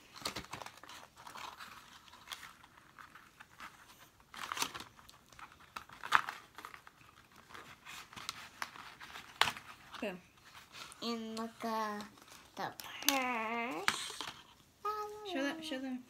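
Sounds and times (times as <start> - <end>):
plastic packaging crinkling: 0.0 - 15.1.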